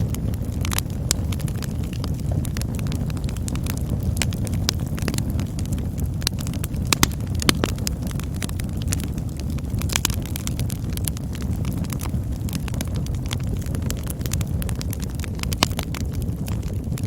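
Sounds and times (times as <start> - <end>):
campfire flame rumble: 0.0 - 17.0
fire crackles and pops: 0.0 - 17.0.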